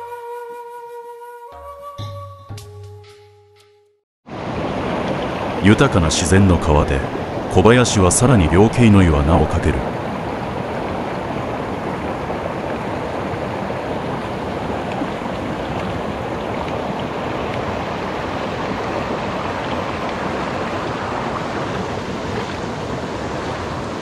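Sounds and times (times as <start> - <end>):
stream rushing over rocks: 4.3 - 24.0.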